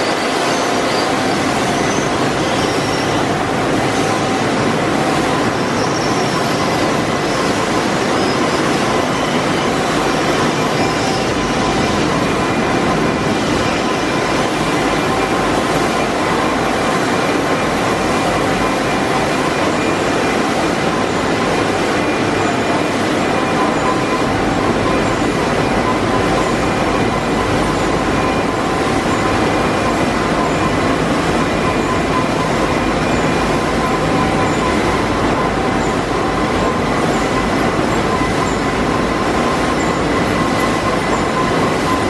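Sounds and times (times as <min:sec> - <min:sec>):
production machinery running: 0:00.0 - 0:42.0.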